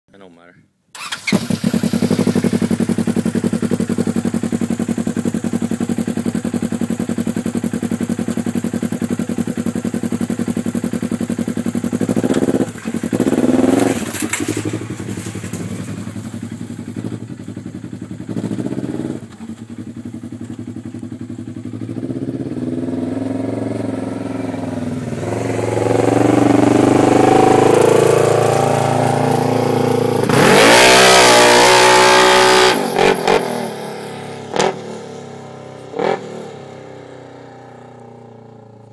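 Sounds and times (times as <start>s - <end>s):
utility vehicle engine revving: 1.0s - 6.0s, 10.6s - 36.8s.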